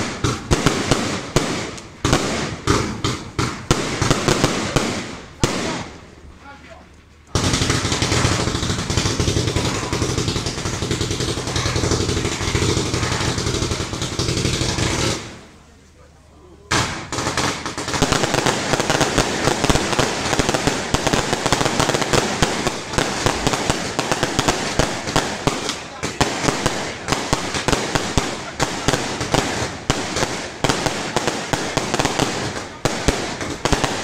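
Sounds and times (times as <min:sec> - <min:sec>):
fireworks rushing roar: 0:00.0 - 0:06.4, 0:07.1 - 0:15.9, 0:16.7 - 0:34.0
fireworks cracking and popping: 0:00.0 - 0:16.0, 0:16.7 - 0:34.0.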